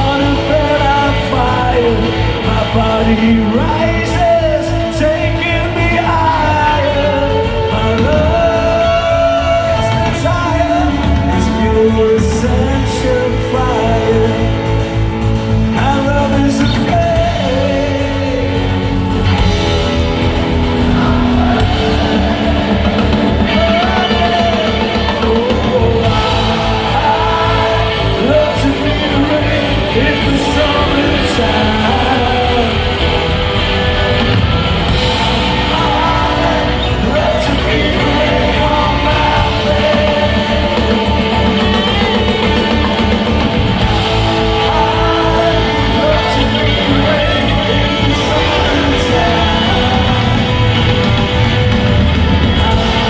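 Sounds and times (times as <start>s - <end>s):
electric guitars: 0.0s - 53.0s
person singing: 0.0s - 53.0s
steady drum beat: 0.0s - 53.0s.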